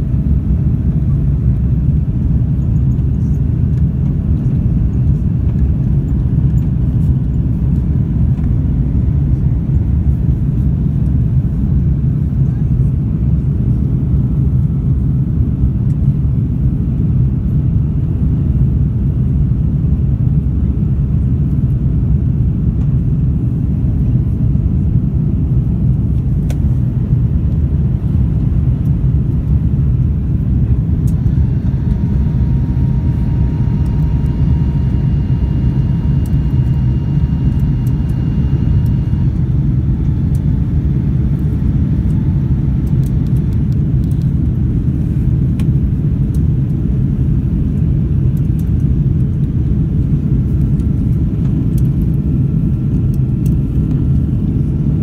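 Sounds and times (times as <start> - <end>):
airplane cabin engine rumble: 0.0 - 55.0
faint steady whine: 0.0 - 55.0.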